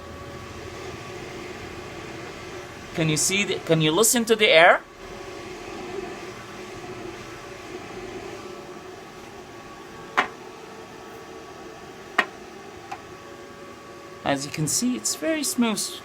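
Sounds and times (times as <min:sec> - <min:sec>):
cooling fans rushing: 0:00.0 - 0:16.0.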